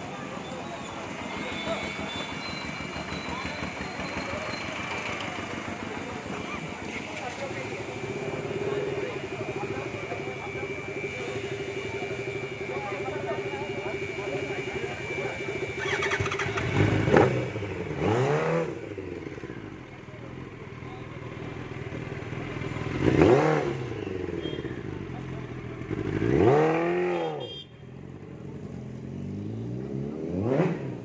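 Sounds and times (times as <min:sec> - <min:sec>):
motorcycle engine revving: 0:00.8 - 0:31.0.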